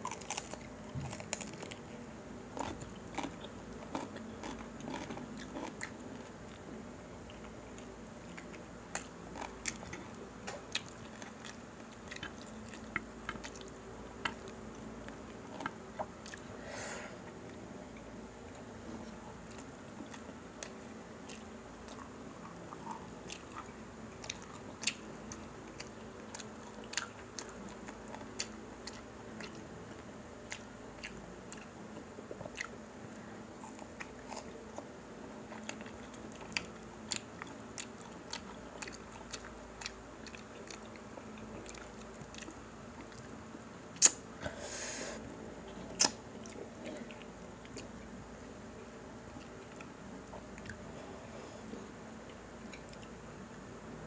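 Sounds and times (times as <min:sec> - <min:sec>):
people chewing and crunching: 0:00.0 - 0:43.4, 0:45.6 - 0:48.2, 0:49.3 - 0:53.2
faint steady hum: 0:00.0 - 0:54.0.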